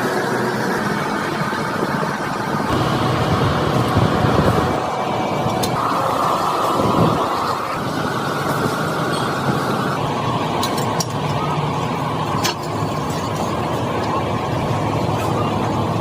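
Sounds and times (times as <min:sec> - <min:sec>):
steady machine noise: 0:00.0 - 0:16.0.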